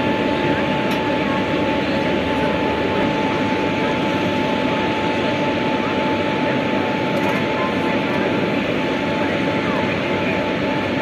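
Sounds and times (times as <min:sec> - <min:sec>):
constant high whine: 0:00.0 - 0:11.0
locomotive machinery drone: 0:00.0 - 0:11.0.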